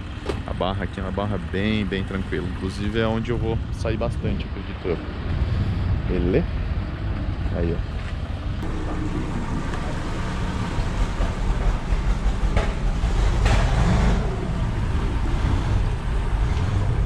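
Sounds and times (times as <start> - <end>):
motorboat engine idling: 0.0 - 17.0.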